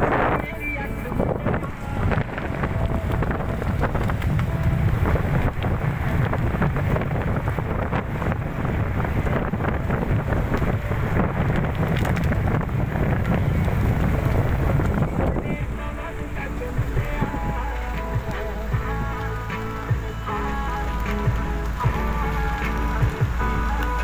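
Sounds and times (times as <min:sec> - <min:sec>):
car rumbling on dirt road: 0:00.0 - 0:24.0
wind buffeting microphone: 0:00.0 - 0:24.0.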